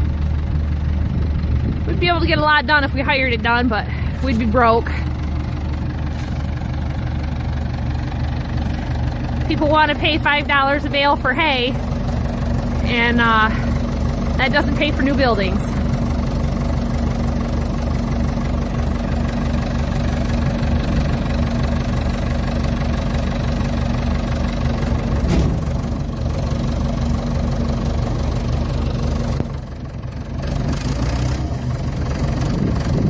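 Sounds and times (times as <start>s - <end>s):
backhoe engine idling: 0.0s - 33.0s.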